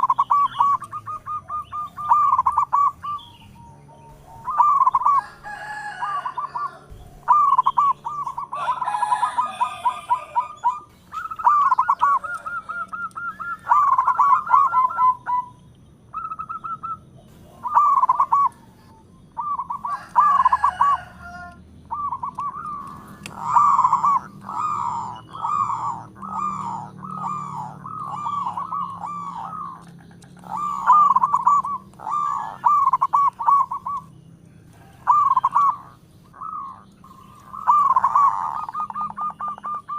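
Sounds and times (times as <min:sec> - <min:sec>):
dove cooing: 0:00.0 - 0:39.9
faint high bird chirps: 0:00.0 - 0:39.9.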